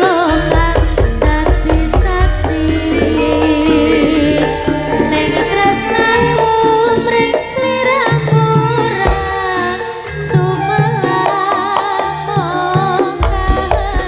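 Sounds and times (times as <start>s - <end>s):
drums: 0.0s - 14.0s
person singing: 0.0s - 14.0s
wavering melody: 0.0s - 14.0s.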